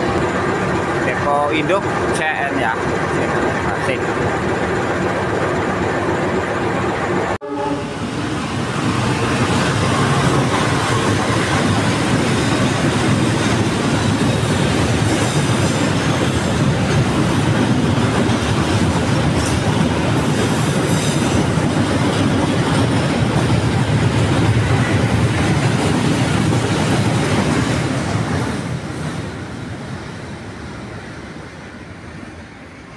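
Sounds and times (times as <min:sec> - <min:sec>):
diesel locomotive hauling train: 0:00.0 - 0:32.9.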